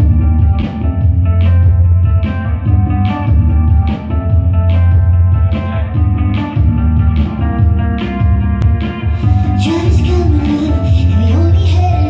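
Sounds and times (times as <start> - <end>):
accented beat: 0.0 - 12.0
deep steady bass: 0.0 - 12.0
electric guitar: 0.0 - 12.0.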